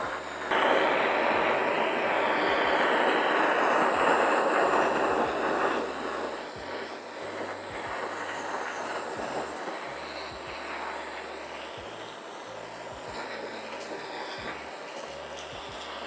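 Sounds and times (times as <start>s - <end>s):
blowtorch flame hissing: 0.0s - 16.0s.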